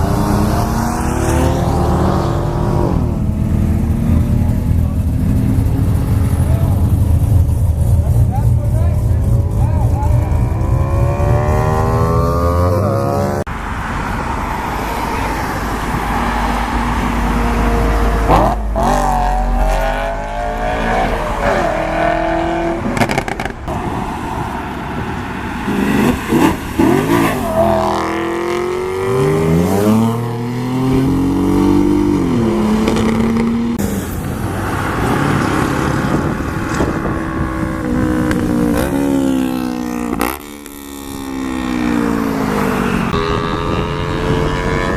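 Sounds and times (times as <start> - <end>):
sports car engines revving: 0.0 - 23.9, 25.0 - 44.9.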